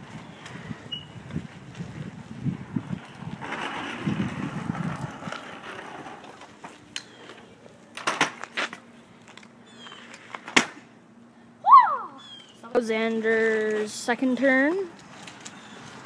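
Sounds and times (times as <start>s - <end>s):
scooter wheels rolling: 0.0s - 10.9s, 12.9s - 16.0s.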